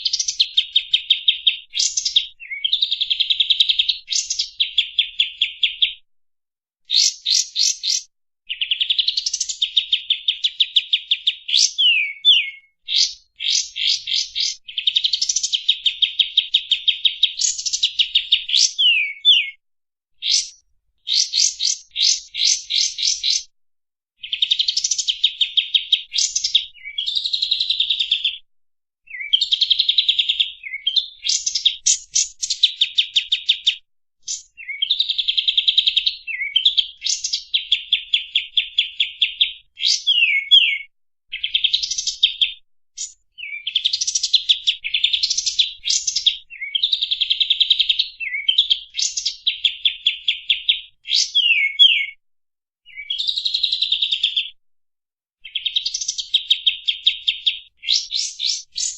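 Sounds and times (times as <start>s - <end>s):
songbird singing trilled phrases: 0.0s - 6.0s, 6.9s - 19.6s, 20.2s - 23.5s, 24.2s - 28.3s, 29.1s - 52.2s, 52.9s - 54.4s, 55.4s - 58.9s.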